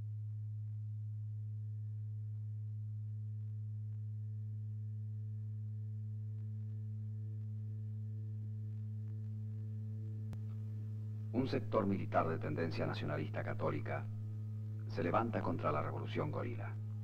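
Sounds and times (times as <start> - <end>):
low electronic hum: 0.0 - 17.0.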